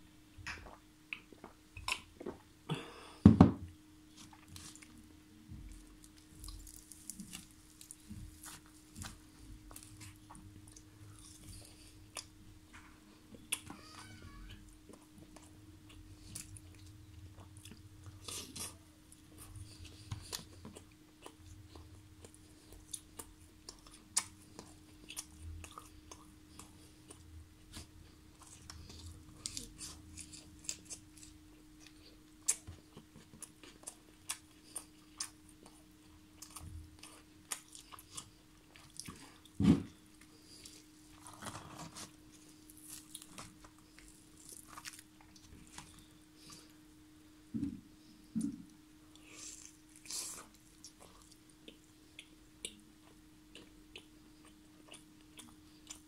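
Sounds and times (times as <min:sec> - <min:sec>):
faint steady hum: 0:00.0 - 0:56.0
person chewing food: 0:00.5 - 0:03.2, 0:04.1 - 0:46.8, 0:48.0 - 0:56.0.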